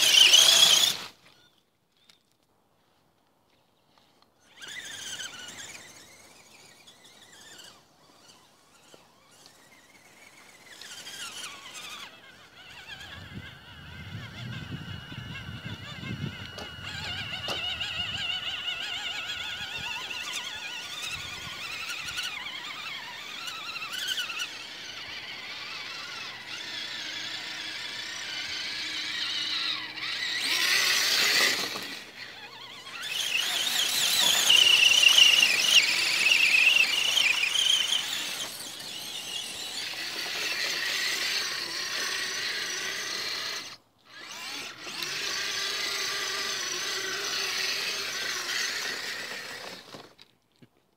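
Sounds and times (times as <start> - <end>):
electric motors whining: 0.0 - 2.2, 3.9 - 50.3.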